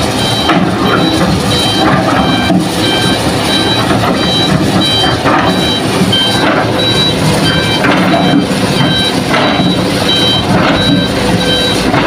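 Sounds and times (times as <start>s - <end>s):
excavator diesel engine under load: 0.0s - 12.0s.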